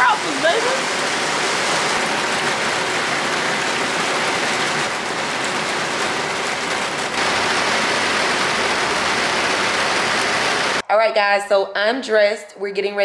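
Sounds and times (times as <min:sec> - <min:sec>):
heavy rain falling: 0:00.0 - 0:10.8.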